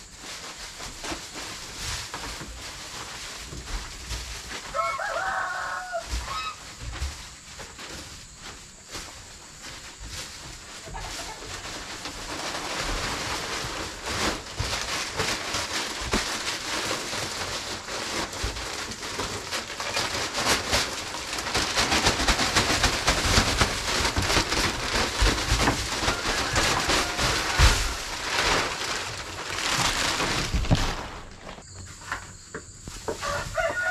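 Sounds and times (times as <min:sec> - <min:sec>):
shovel scraping dry bedding: 0:00.1 - 0:31.9.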